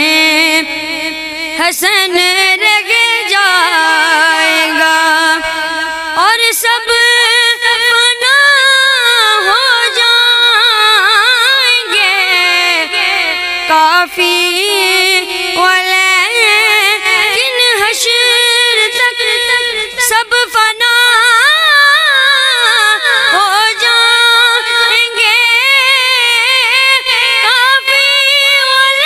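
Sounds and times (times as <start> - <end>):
boy singing into a microphone: 0.0 - 29.0.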